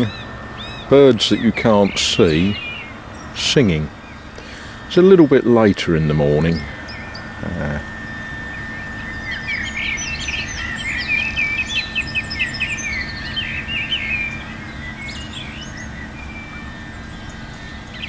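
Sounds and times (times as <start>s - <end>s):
faint steady high tone: 0.0s - 18.0s
low background rumble: 0.0s - 18.0s
songbirds chirping and trilling: 0.0s - 18.0s.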